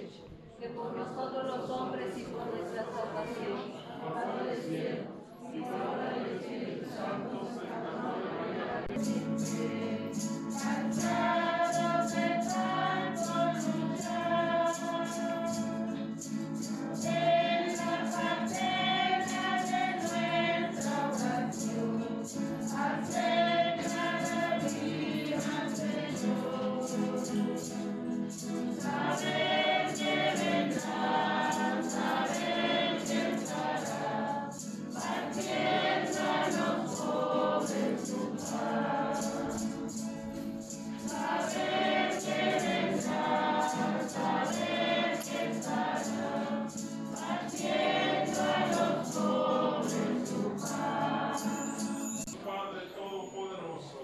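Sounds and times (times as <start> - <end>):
group singing a hymn: 0.6 - 54.0
steady rhythmic accompaniment: 8.9 - 52.4.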